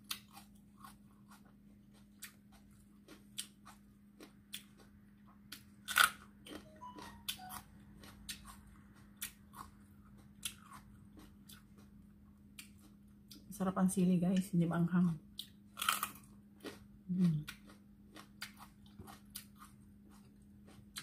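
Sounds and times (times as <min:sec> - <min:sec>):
chili pepper crunching: 0:00.0 - 0:13.6, 0:15.2 - 0:21.0.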